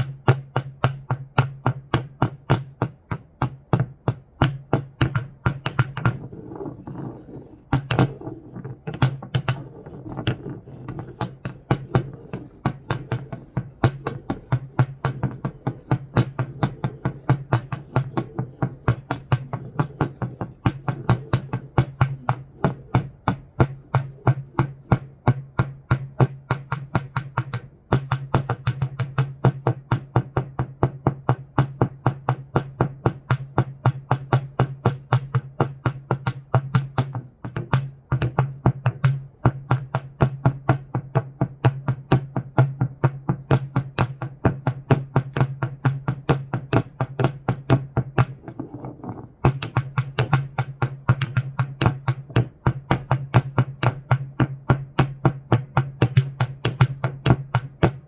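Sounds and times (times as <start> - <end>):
rocks tapped in sharp clicks: 0.0 - 58.0.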